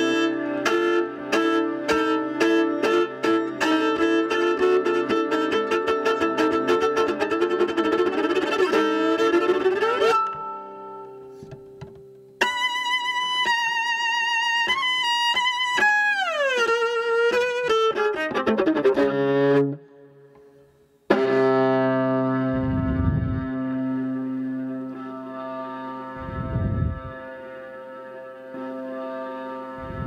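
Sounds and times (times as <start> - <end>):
solo viola playing: 0.0 - 30.0.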